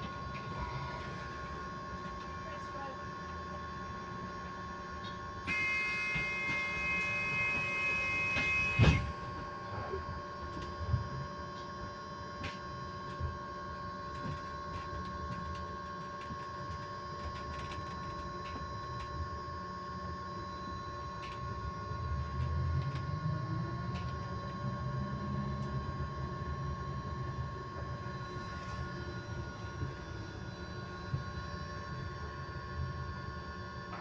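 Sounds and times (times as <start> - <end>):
electric bus whine: 0.0 - 34.0.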